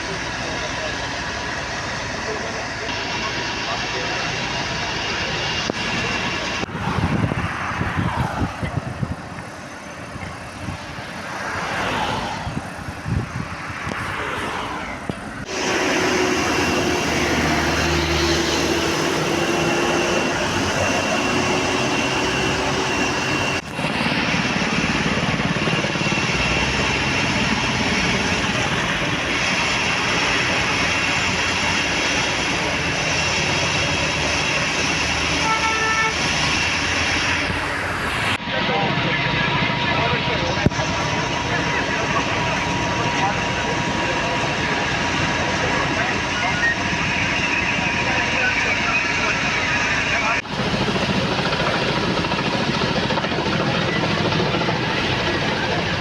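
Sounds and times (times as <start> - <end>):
steady rushing noise: 0.0 - 56.0
vehicle engine drone: 0.0 - 56.0.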